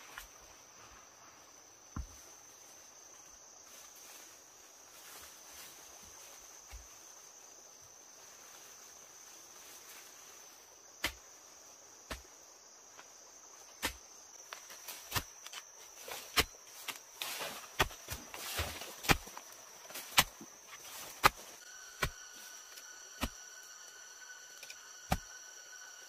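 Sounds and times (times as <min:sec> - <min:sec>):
insects calling: 0:00.0 - 0:26.0.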